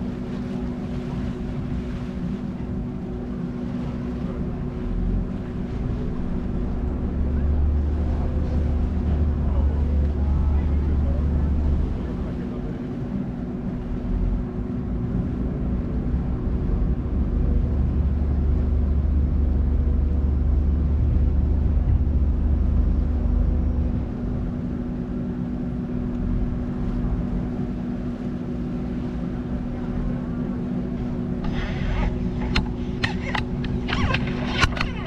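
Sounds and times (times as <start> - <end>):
deep low rumble: 0.0 - 35.0
ferry engine humming: 0.0 - 35.0.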